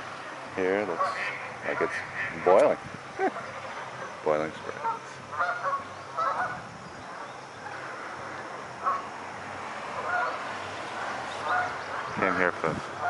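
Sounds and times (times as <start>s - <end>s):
waterfowl calling: 0.6s - 9.1s, 9.9s - 13.0s.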